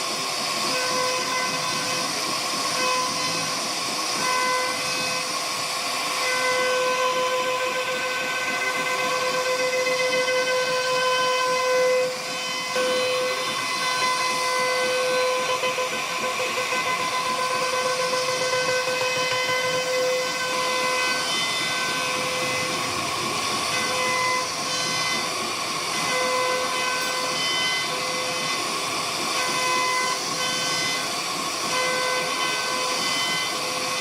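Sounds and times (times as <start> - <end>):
hissing wood cutting noise: 0.0 - 34.0
router spindle whine: 0.0 - 34.0.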